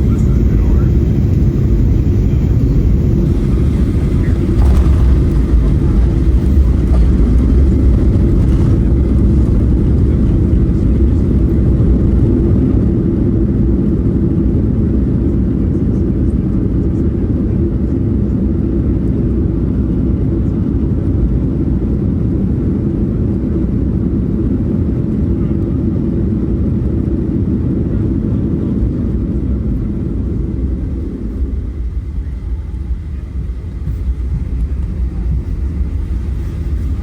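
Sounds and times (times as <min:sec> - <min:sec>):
airplane cabin engine rumble: 0:00.0 - 0:37.0.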